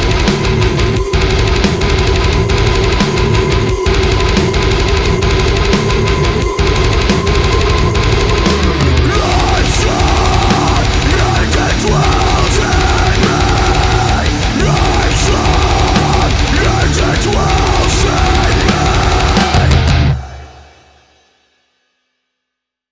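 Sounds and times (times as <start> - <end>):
heavy metal music: 0.0 - 21.2.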